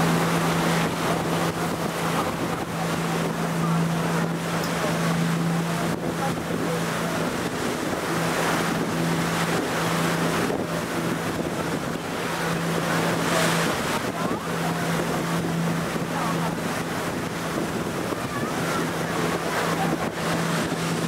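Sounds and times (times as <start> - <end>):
boat engine humming: 0.0 - 21.0
sea washing past: 0.0 - 21.0
wind buffeting microphone: 0.0 - 21.0.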